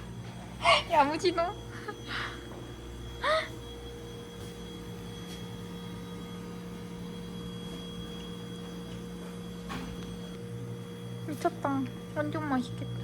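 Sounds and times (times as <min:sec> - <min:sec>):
refrigerated display cases humming: 0:00.0 - 0:13.0.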